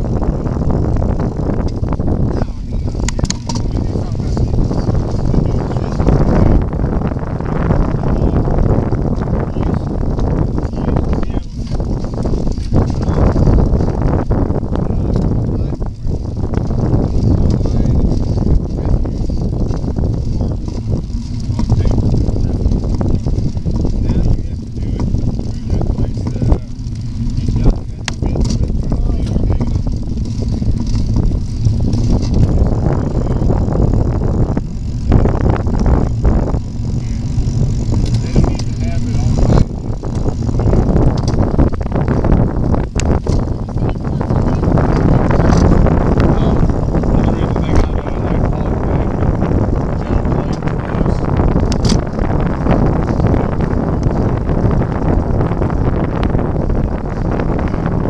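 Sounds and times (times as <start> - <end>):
low rumble: 0.0 - 58.0
wind buffeting microphone: 0.0 - 58.0.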